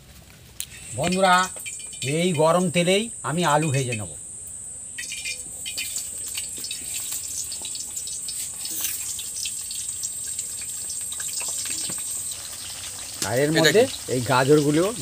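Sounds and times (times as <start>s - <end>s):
potatoes sizzling in hot oil: 0.6s - 15.0s.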